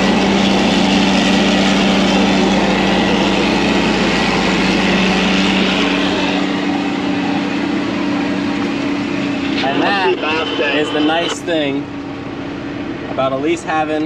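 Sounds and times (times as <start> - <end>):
forage harvester machine drone: 0.0 - 14.0.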